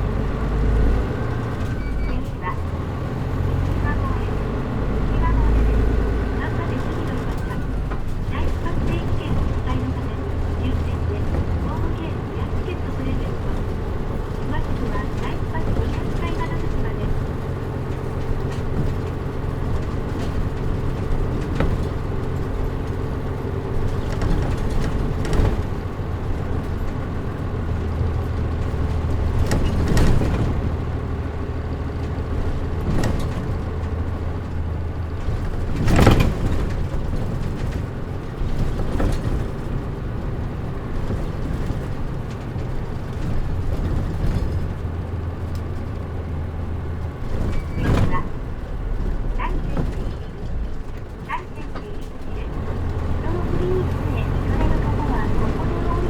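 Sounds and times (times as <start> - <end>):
bus body knocks and rattles: 0.0 - 56.0
bus diesel engine drone: 0.0 - 56.0.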